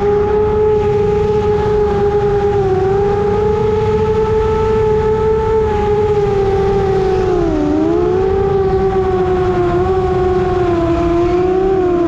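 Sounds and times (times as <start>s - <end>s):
drone motors whining: 0.0s - 12.0s
low wind rumble: 0.0s - 12.0s.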